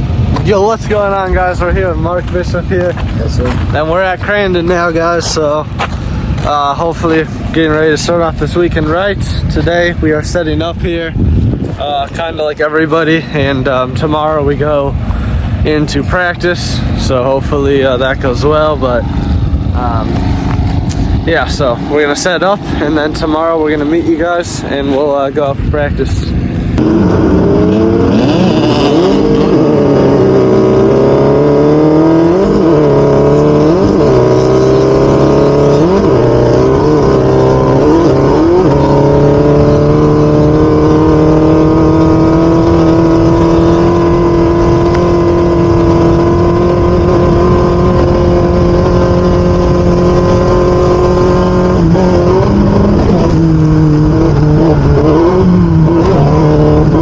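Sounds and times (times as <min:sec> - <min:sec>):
race vehicle engine revving: 0:00.0 - 0:57.0.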